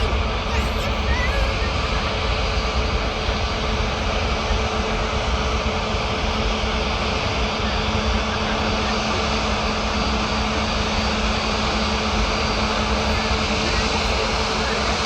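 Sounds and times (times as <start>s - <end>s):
jet airliner engines running: 0.0s - 15.0s.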